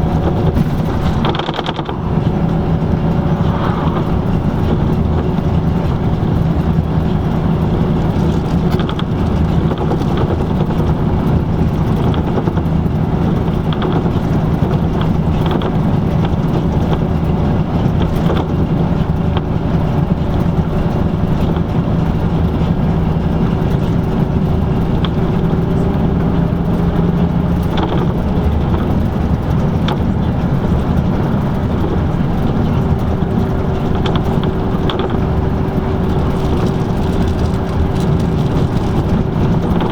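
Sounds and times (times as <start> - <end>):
bus engine drone: 0.0 - 39.9
light rattles and clicks: 0.0 - 39.9
road noise: 0.0 - 39.9.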